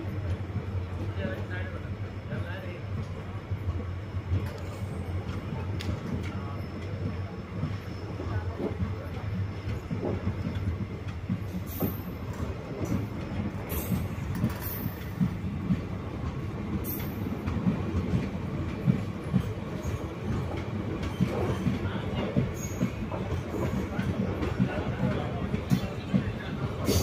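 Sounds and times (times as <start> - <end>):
train rumbling: 0.0 - 27.0
train wheels clanking and knocking: 2.4 - 27.0.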